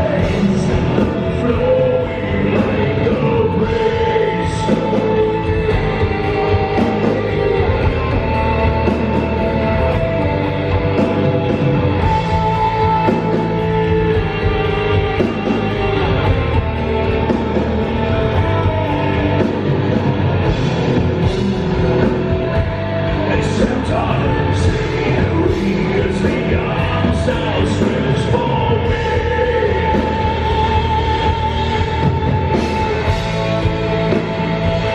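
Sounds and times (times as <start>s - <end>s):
heavy metal band playing live: 0.0s - 34.9s.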